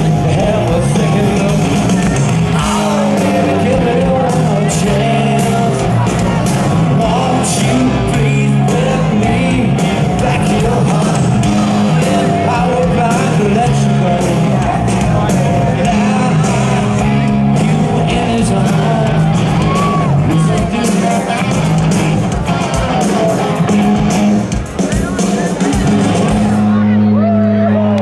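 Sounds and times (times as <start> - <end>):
rock band playing loudly: 0.0 - 28.0
vocals: 0.0 - 28.0.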